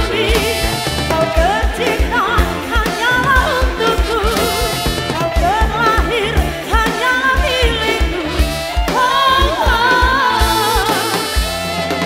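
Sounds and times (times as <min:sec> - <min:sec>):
woman singing: 0:00.0 - 0:11.5
bass: 0:00.0 - 0:12.0
electric guitar: 0:00.0 - 0:12.0.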